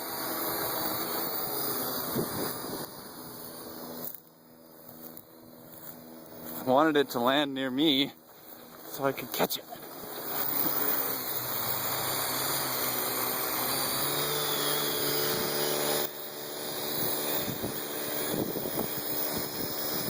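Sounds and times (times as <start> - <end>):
drone rotors buzzing: 0.0 - 20.0.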